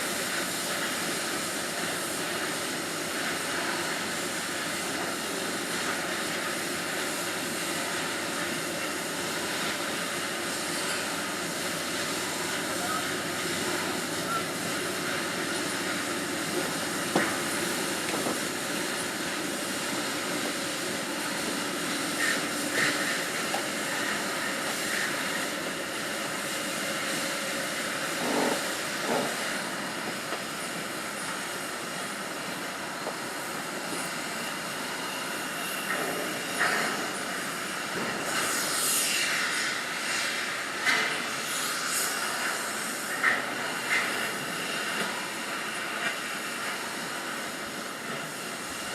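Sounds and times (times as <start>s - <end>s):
industrial hiss and hum: 0.0s - 48.9s.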